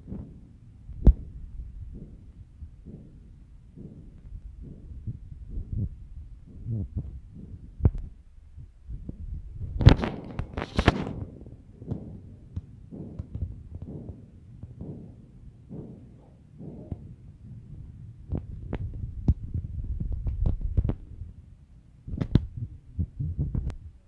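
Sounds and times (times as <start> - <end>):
thumps and rumble on microphone: 0.0 - 24.0.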